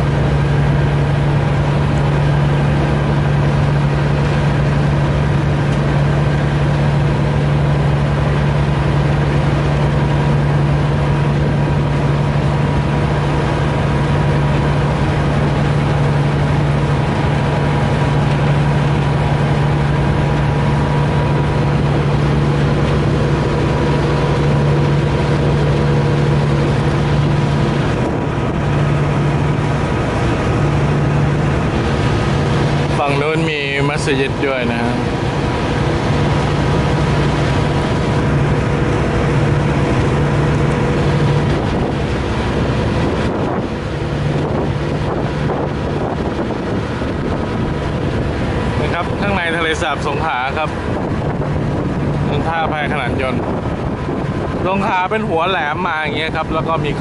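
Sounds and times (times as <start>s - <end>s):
ferry engine droning: 0.0s - 57.0s
steady hum: 0.0s - 57.0s.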